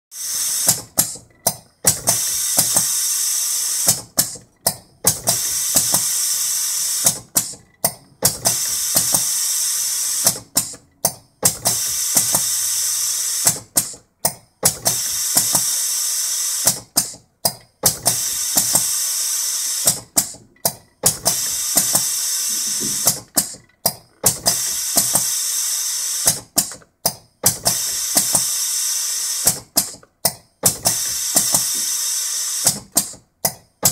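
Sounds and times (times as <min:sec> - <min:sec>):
pneumatic machine hiss: 0:00.2 - 0:33.9
stamping machine sharp clacks: 0:00.3 - 0:33.9.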